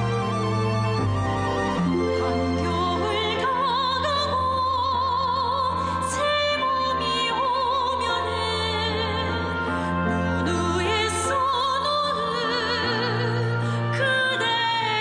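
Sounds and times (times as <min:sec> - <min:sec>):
sustained instrumental accompaniment: 0:00.0 - 0:15.0
person singing with vibrato: 0:02.6 - 0:15.0.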